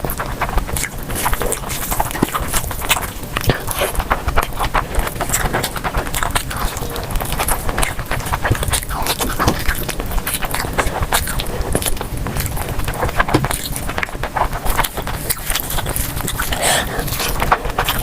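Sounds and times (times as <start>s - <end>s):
chewing and mouth sounds: 0.0s - 18.0s.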